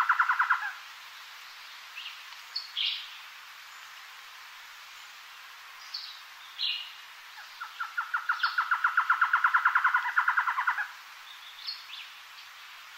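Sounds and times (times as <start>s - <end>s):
steady hiss: 0.0s - 12.9s.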